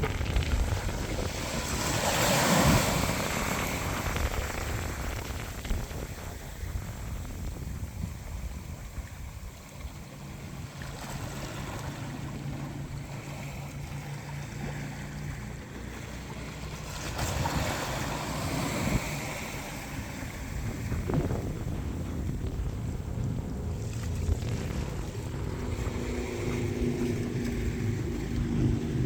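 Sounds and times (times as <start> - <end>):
ocean surf washing on shore: 0.0 - 29.0
wind rumble on microphone: 0.0 - 29.0.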